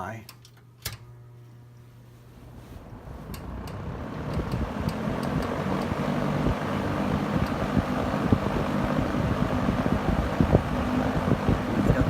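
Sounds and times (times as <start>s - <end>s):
low motor hum: 1.0s - 12.0s
box fan rushing air: 1.9s - 12.0s.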